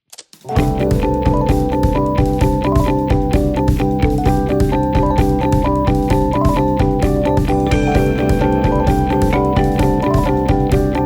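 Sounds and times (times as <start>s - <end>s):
instrumental keyboard and guitar music: 0.5s - 11.0s.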